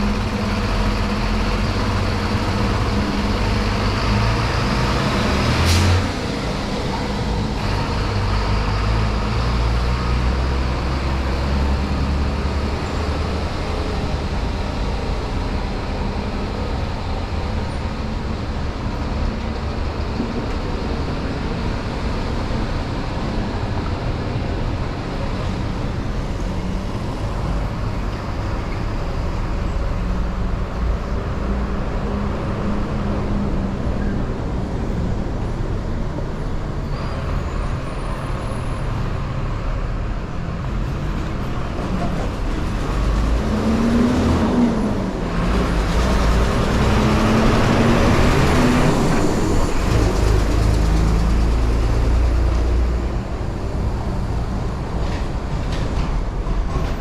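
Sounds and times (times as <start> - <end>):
heavy vehicle engine rumble: 0.0 - 57.0
street traffic passing: 0.0 - 57.0.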